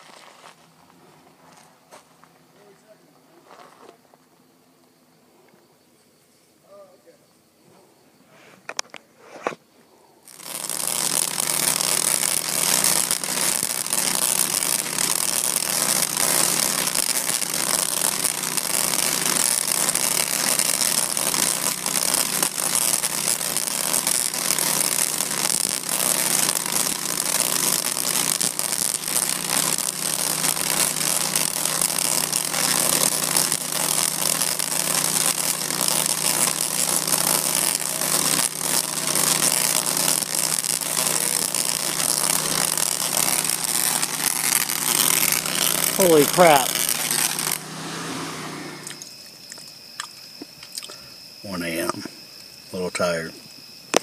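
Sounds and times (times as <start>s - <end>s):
tesla coil crackling buzz: 0.0s - 3.0s, 10.2s - 54.0s.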